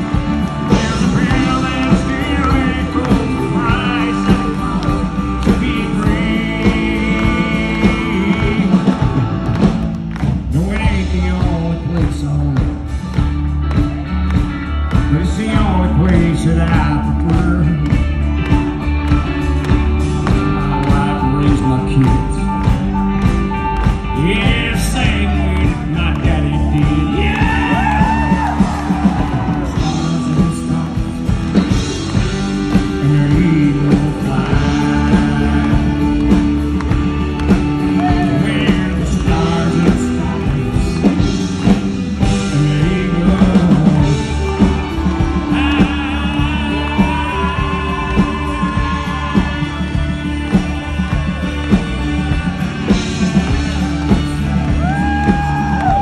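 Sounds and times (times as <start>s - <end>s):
live country band: 0.0s - 56.0s
man singing: 0.0s - 56.0s.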